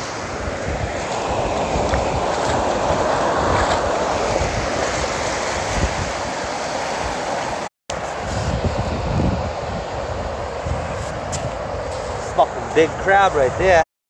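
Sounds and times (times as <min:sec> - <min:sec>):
waves breaking on shore: 0:00.0 - 0:13.8.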